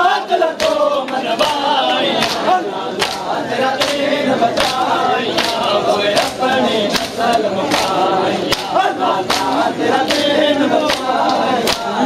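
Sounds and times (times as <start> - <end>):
men chanting together: 0.0 - 12.0
rhythmic chest beating: 0.0 - 12.0.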